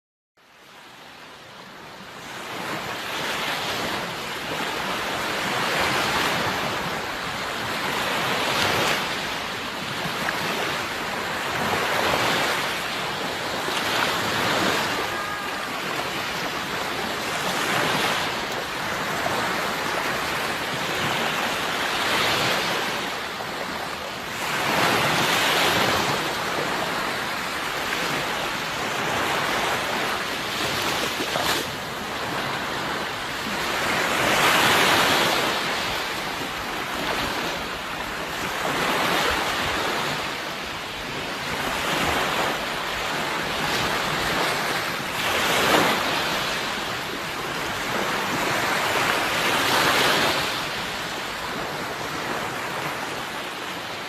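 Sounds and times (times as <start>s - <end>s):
sea waves breaking on shore: 0.4s - 54.0s.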